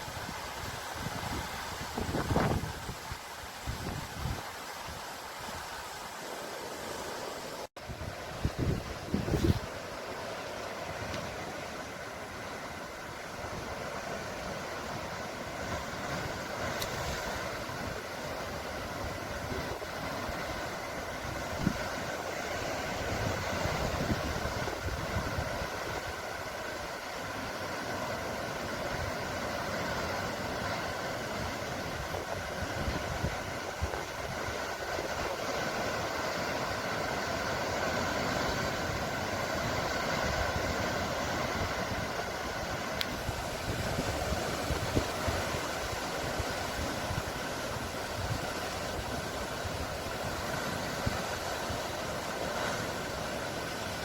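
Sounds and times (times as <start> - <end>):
steady rushing noise: 0.0 - 27.5, 28.4 - 54.0.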